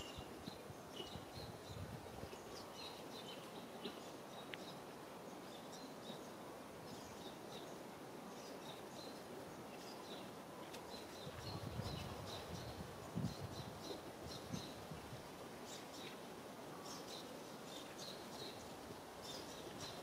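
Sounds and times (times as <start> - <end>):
small birds chirping: 0.0 - 14.8, 15.6 - 20.0
steady low hiss: 0.0 - 20.0.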